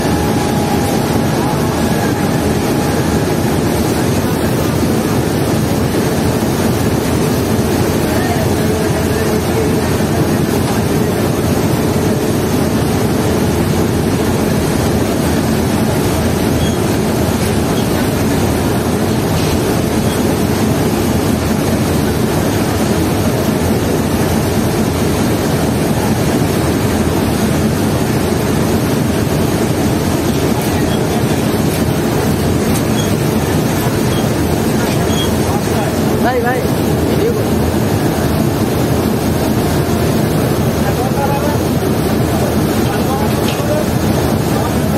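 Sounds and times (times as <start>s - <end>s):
boat diesel engines droning: 0.0s - 44.9s
propeller wash churning: 0.0s - 44.9s.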